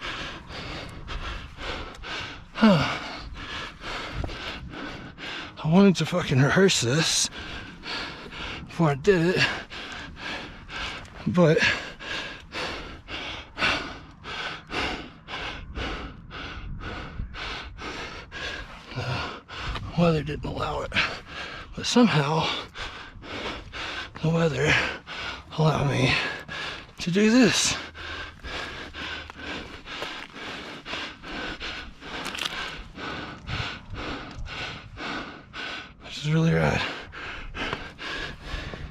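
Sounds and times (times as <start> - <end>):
person breathing hard: 0.0 - 38.9.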